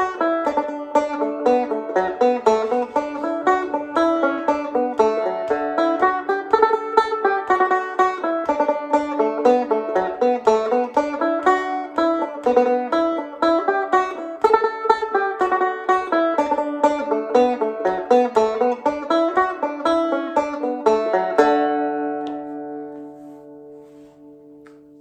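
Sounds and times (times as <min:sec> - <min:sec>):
banjo playing a fast reel: 0:00.0 - 0:22.9.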